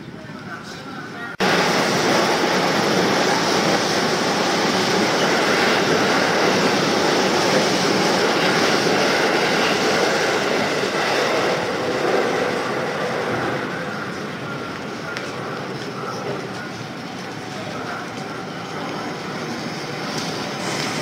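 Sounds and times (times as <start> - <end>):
train wheels rumbling on rails: 0.2 - 21.0.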